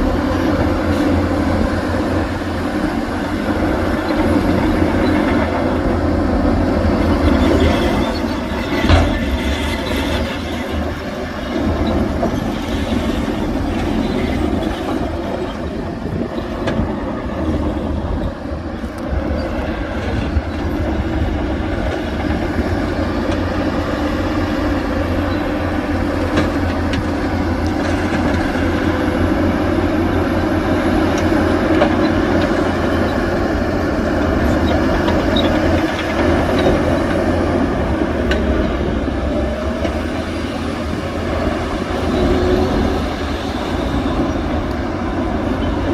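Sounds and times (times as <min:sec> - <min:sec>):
heavy diesel machinery rumbling: 0:00.0 - 0:45.9.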